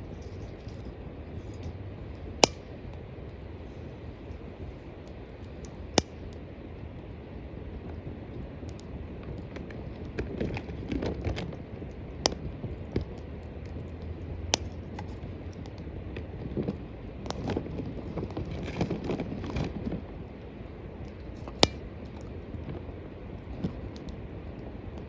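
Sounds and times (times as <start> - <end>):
wood fire crackling: 0.0 - 25.0
sharp pops of fire: 1.4 - 25.0.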